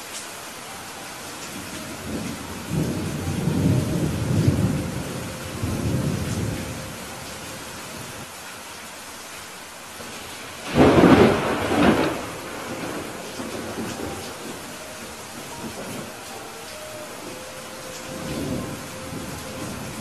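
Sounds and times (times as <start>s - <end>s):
steady rain hiss: 0.0s - 20.0s
rolling thunder rumble: 1.6s - 8.2s, 10.0s - 20.0s.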